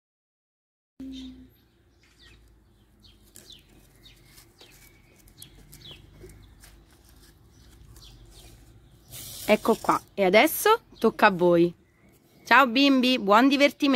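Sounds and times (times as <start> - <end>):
small birds chirping: 1.0 - 13.9.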